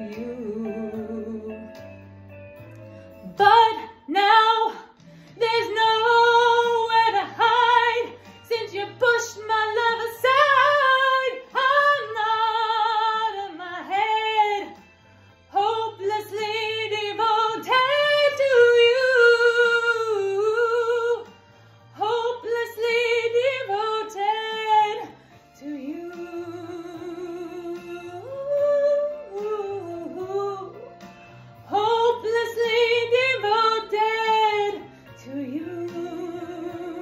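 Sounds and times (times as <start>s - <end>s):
woman singing slow ballad: 0.0s - 2.1s, 3.2s - 14.9s, 15.5s - 37.0s.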